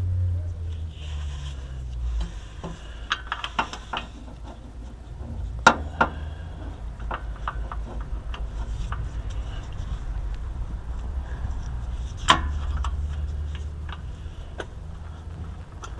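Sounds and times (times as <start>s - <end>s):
low steady rumble: 0.0s - 15.9s.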